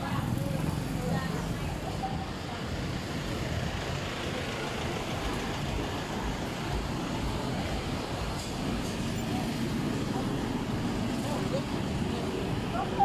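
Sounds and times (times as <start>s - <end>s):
low engine rumble: 0.0s - 13.0s
passing vehicles: 0.0s - 13.0s.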